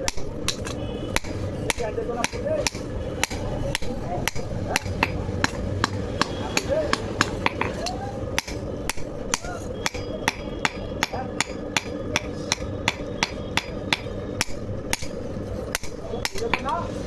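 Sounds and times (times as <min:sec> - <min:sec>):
hammer striking metal: 0:00.0 - 0:16.9
steady low drone: 0:00.0 - 0:17.0.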